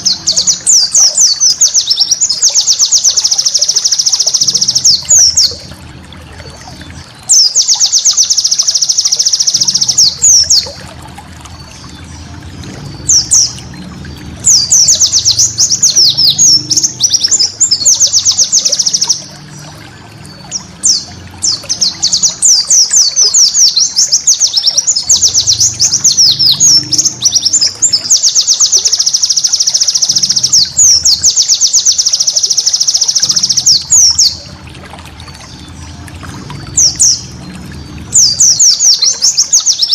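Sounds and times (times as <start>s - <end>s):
bird singing fast trills: 0.0s - 5.8s, 6.4s - 10.8s, 11.5s - 19.6s, 20.2s - 34.6s, 36.5s - 39.9s.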